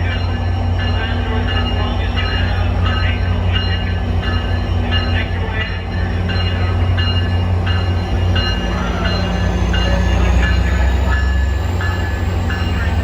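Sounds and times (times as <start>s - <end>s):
bell ringing: 0.0s - 13.0s
train engine hum: 0.0s - 13.0s.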